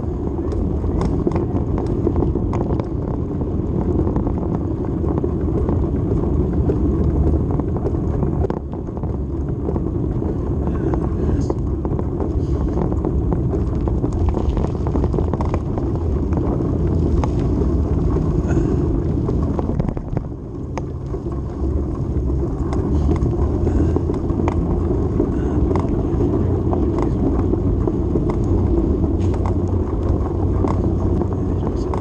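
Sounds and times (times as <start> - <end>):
vehicle low rumble: 0.0 - 32.0
wind on microphone: 0.0 - 32.0.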